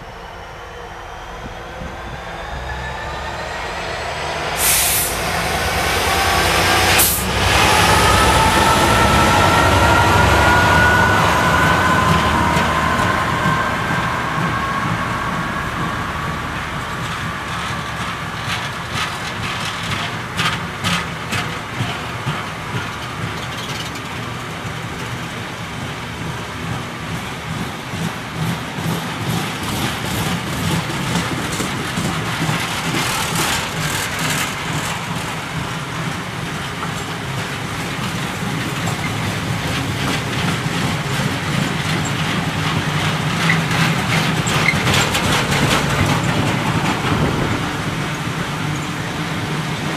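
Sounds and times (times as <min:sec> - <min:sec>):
wheels rumbling on rails: 0:00.0 - 0:49.9
train clicks and clatter: 0:05.1 - 0:49.9.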